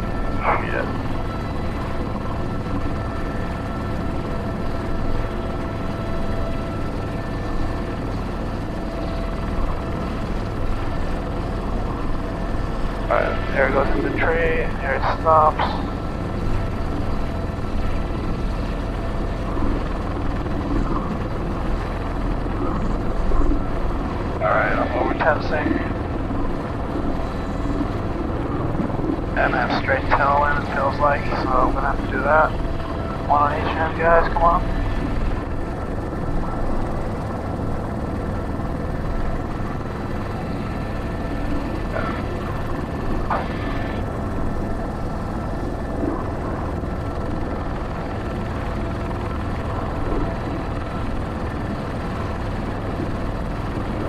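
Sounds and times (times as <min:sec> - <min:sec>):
faint whine tones: 0:00.0 - 0:54.0
helicopter rotor and turbine drone: 0:00.0 - 0:54.0.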